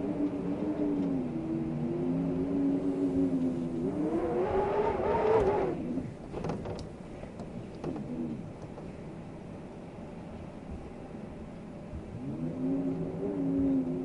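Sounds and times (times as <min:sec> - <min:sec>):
wind howling: 0:00.0 - 0:06.3, 0:07.0 - 0:14.0.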